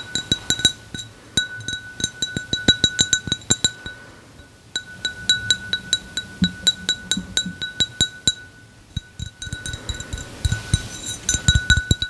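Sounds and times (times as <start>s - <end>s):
glass cup clinking: 0.0s - 12.0s.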